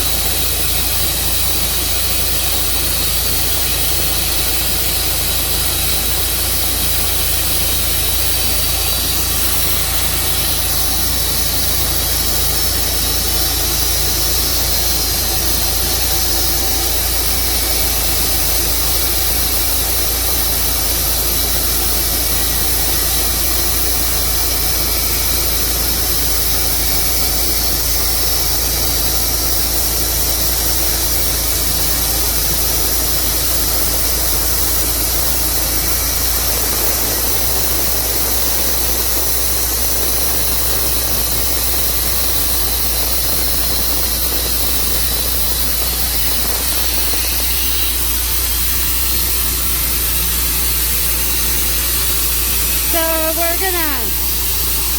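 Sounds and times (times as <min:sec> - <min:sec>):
sawmill engine under load: 0:00.0 - 0:54.9.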